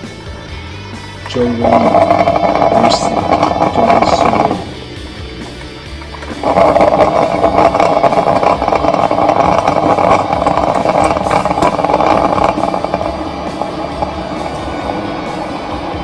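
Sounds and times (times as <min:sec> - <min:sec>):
coffee maker hissing gurgle: 0:01.0 - 0:16.0.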